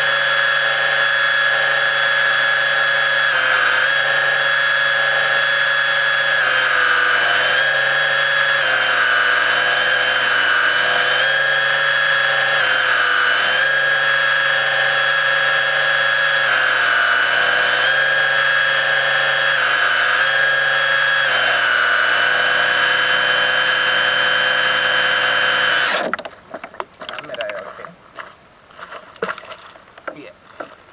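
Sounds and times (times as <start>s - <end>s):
model boat motor whining: 0.0s - 26.2s.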